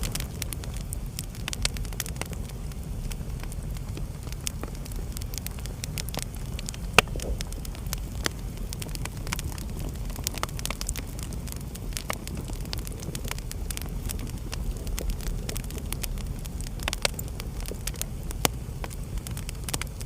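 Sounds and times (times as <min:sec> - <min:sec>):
fire crackling and popping: 0:00.0 - 0:20.0
low rumble of flame: 0:00.0 - 0:20.0.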